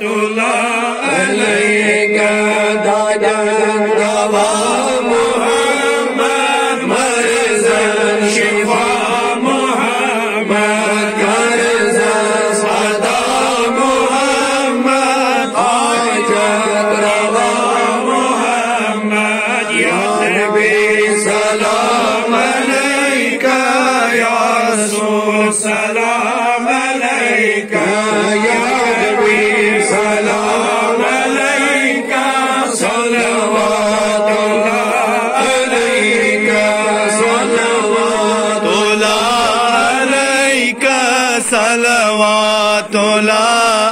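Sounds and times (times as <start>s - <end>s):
men chanting: 0.0s - 43.9s.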